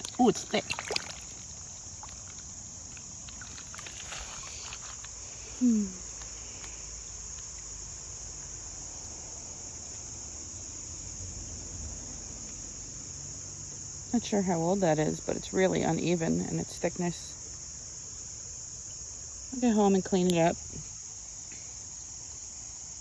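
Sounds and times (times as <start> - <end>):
crickets and insects chorus: 0.0 - 23.0.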